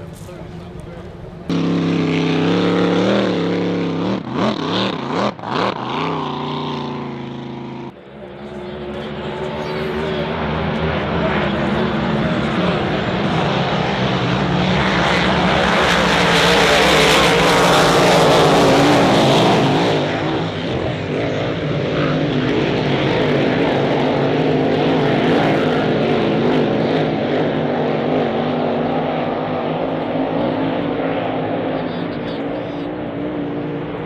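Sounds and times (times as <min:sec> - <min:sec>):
racing boat engines at full throttle: 0:00.0 - 0:34.0.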